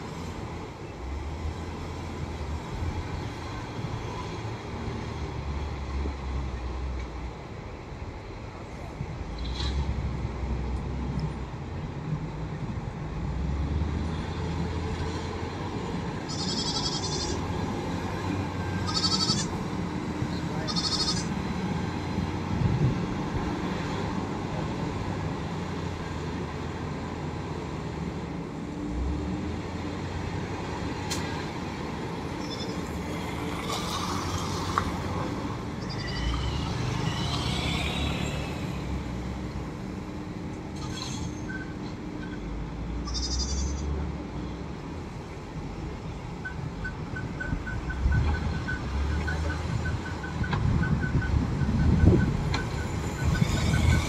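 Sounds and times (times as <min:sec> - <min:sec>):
wheel loader diesel engine: 0:00.0 - 0:54.0.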